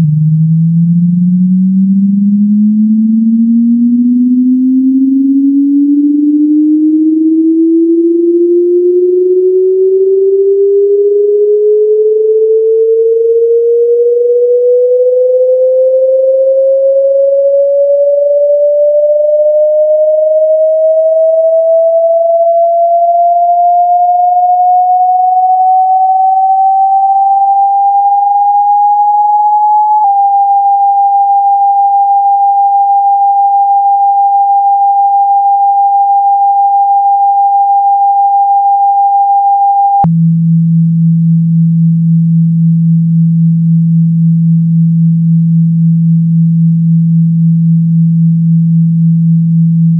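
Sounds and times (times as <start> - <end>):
rising sine tone: 0.0 - 49.9.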